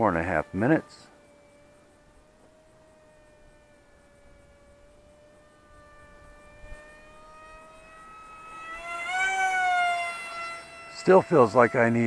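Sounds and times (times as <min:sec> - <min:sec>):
model plane electric motor whine: 0:00.0 - 0:12.0.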